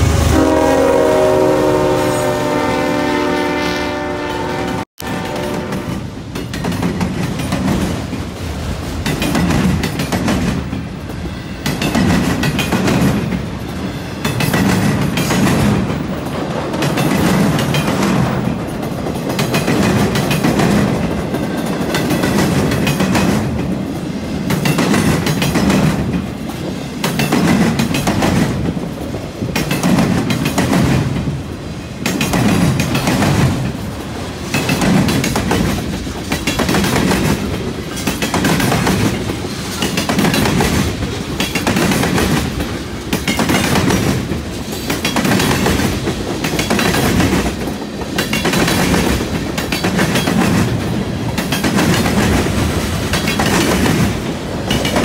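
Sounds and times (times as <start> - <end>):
freight train wheels clacking: 4.7 - 55.0.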